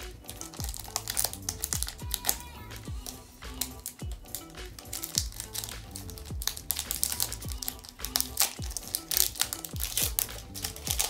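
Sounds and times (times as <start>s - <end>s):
background music with deep beat: 0.0s - 11.0s
foil wrapper crinkling: 0.0s - 11.0s.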